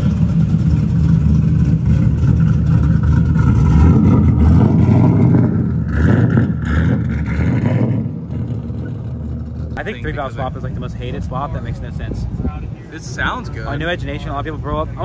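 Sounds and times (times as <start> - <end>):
car engine running loud: 0.0 - 15.0.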